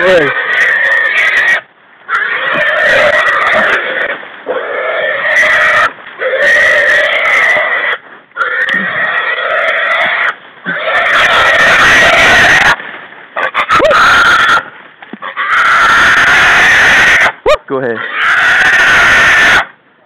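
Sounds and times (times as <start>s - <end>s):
hog squealing loudly: 0.0s - 12.8s, 13.4s - 19.7s.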